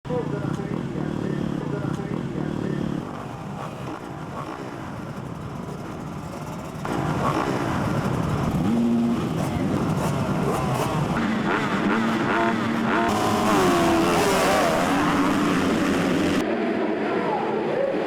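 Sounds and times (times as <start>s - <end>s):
motocross bike engines revving: 0.1s - 17.0s.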